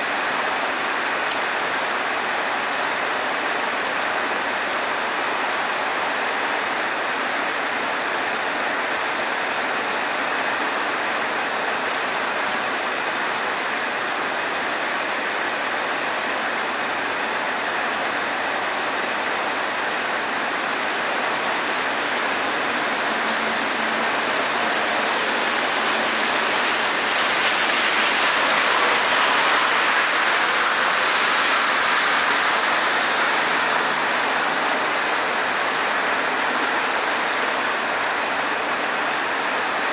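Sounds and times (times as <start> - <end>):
rain on leafy foliage: 0.0 - 39.9.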